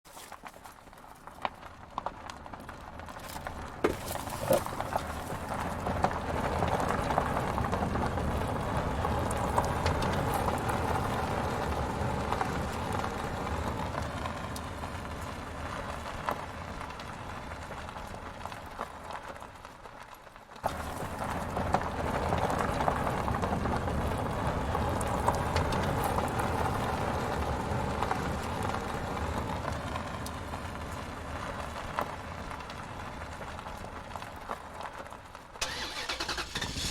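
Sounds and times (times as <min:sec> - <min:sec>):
toy vehicle wheels rumbling: 0:00.1 - 0:36.9.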